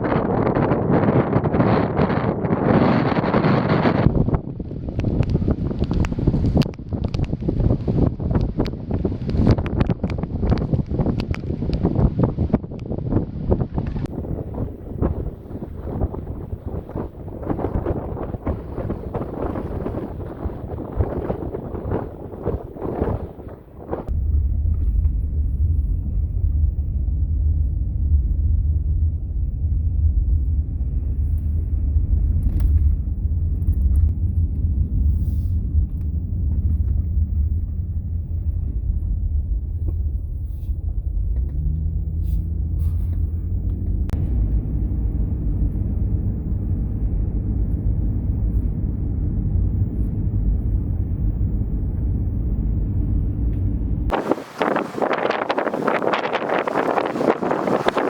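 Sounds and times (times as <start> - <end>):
vehicle rumble from inside: 3.4 - 58.0.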